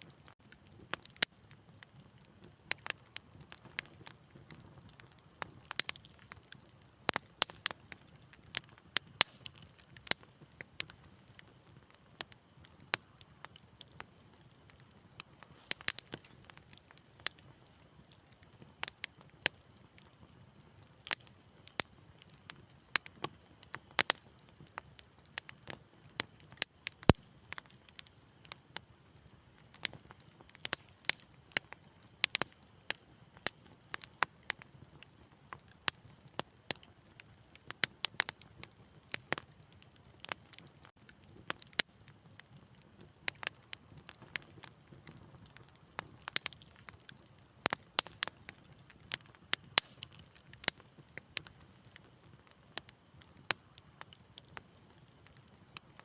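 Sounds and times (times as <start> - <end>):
faint fire hiss: 0.0 - 56.0
fire crackling and popping: 0.0 - 56.0.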